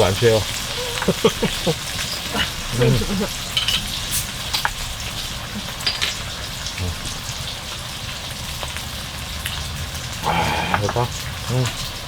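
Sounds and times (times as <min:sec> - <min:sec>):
pork ribs sizzling on a grill: 0:00.0 - 0:12.0.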